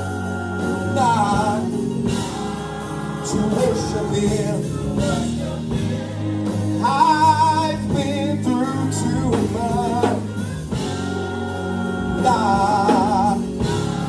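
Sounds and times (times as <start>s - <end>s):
church choir singing: 0.0s - 14.0s
instrumental backing: 0.0s - 14.0s.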